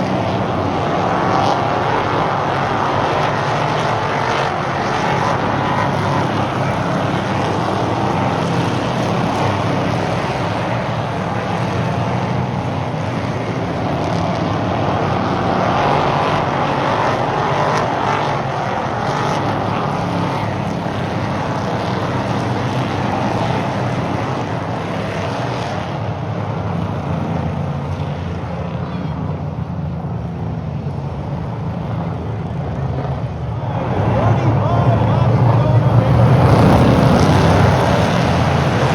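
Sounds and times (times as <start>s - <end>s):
race car engines drone: 0.0s - 38.9s.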